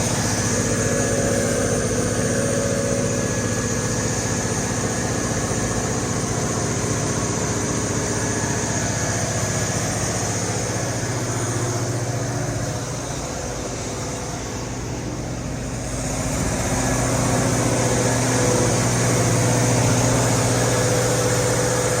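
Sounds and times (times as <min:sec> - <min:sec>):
diesel generator engine running: 0:00.0 - 0:22.0.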